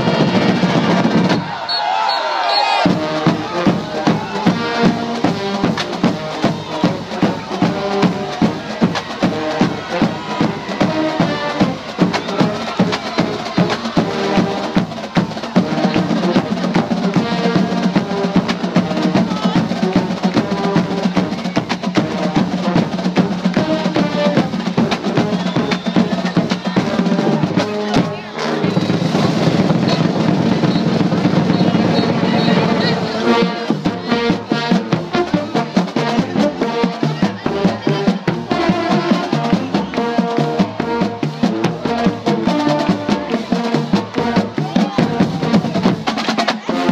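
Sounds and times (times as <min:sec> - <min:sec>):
bass drums and snare drums: 0:00.0 - 0:01.8, 0:02.8 - 0:46.9.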